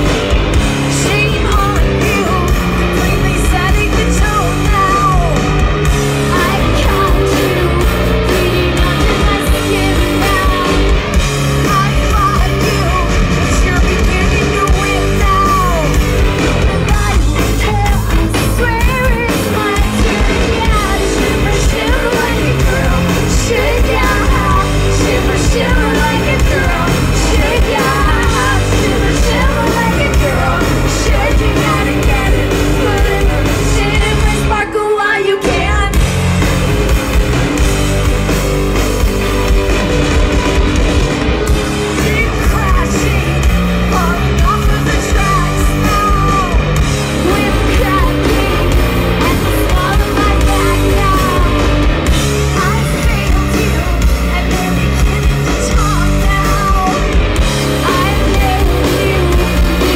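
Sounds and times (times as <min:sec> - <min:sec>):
rock band playing: 0:00.0 - 0:59.9
woman singing: 0:00.8 - 0:05.6, 0:06.2 - 0:36.2, 0:41.9 - 0:59.9.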